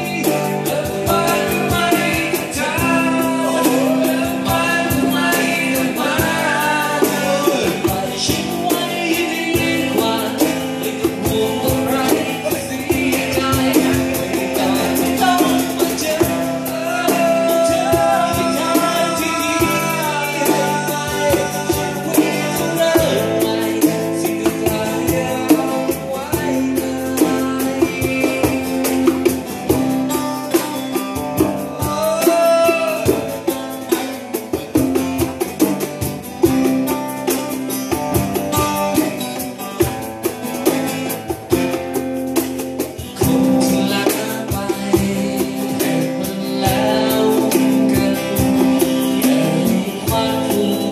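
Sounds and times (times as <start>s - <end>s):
rock song by full band: 0.0s - 50.9s.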